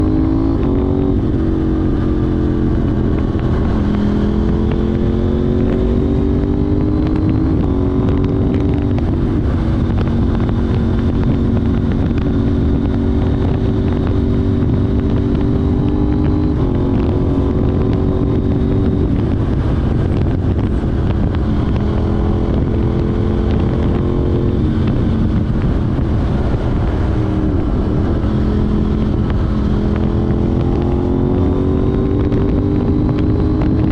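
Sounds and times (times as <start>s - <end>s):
steady low rush: 0.0s - 33.0s
motorcycle engine running: 0.0s - 33.9s.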